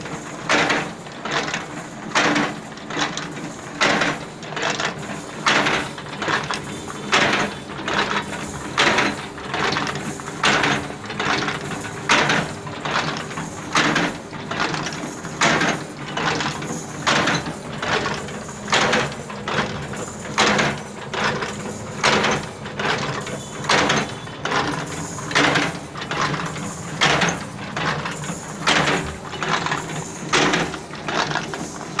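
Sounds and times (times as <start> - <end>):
wire-bending machine clanking: 0.0 - 32.0
metal clicks and rattles: 0.4 - 32.0.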